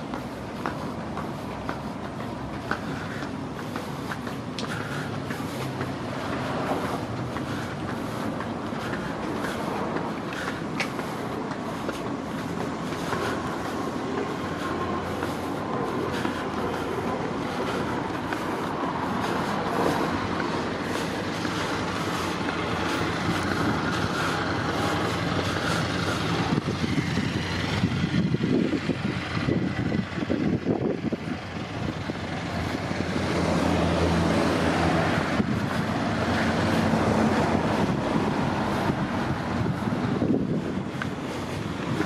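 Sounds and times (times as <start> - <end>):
motorcycle passing: 0.0 - 42.0
road traffic passing: 0.0 - 42.0.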